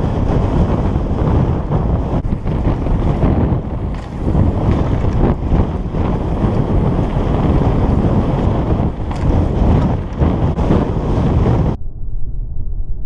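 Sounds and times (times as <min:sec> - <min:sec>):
bike rattling over bumps: 0:00.0 - 0:11.8
tyre noise on dirt: 0:00.0 - 0:11.8
wind rushing over microphone: 0:00.0 - 0:13.0.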